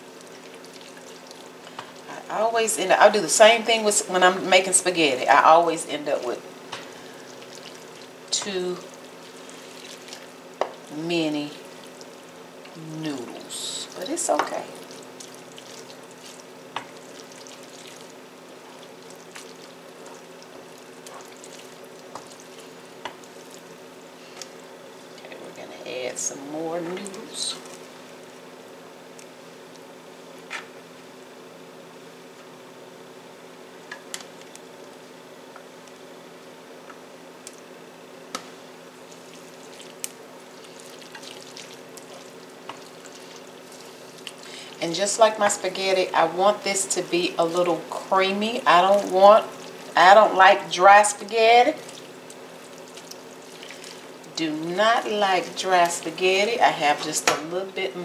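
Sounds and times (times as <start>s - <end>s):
wet stirring and sizzle: 0.0s - 31.2s, 33.7s - 57.4s
steady low hum: 0.0s - 58.0s.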